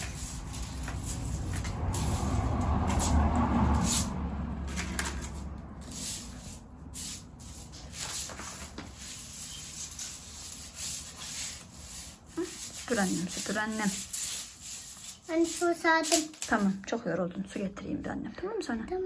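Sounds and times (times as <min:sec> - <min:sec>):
broom sweeping tiled floor: 0:00.0 - 0:17.6.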